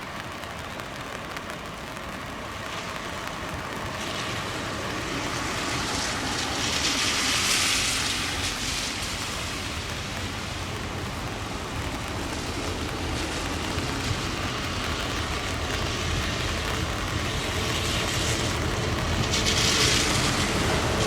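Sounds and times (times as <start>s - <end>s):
heavy rain falling: 0.0s - 21.0s
vehicle passing on wet ground: 0.1s - 21.0s.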